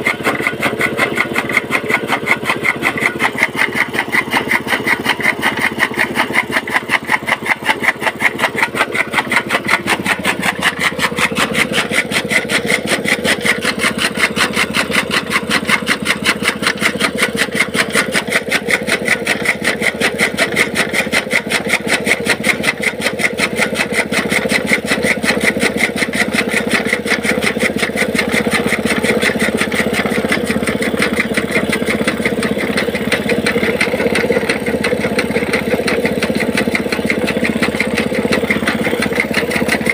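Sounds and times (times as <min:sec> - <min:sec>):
chaff cutter blades chopping fodder: 0:00.0 - 0:39.9
small petrol engine drone: 0:00.0 - 0:39.9.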